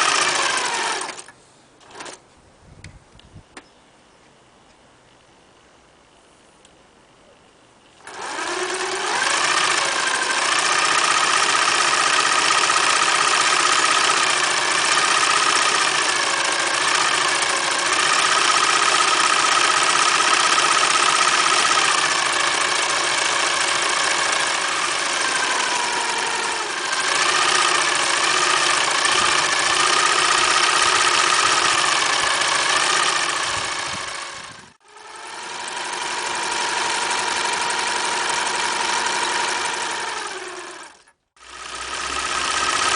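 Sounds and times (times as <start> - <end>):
sewing machine motor whine: 0.0 - 2.2, 8.0 - 42.9.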